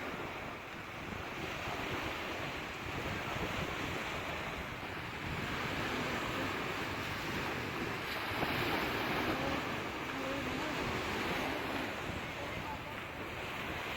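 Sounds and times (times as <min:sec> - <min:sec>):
sea waves washing onto shore: 0:00.0 - 0:13.9.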